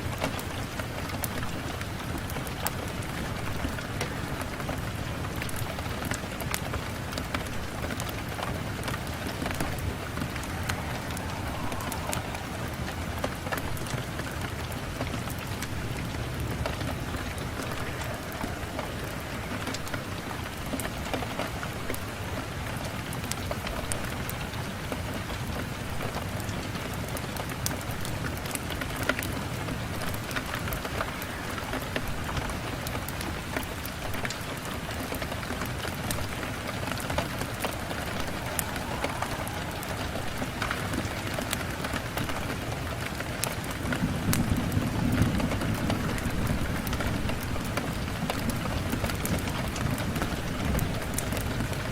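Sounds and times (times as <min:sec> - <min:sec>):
rain on window glass: 0:00.0 - 0:51.9.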